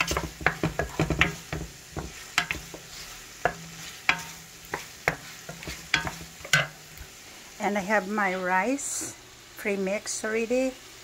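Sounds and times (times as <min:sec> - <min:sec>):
wooden spoon scraping a pan: 0:00.0 - 0:09.1
soft sizzle of frying: 0:00.0 - 0:11.0.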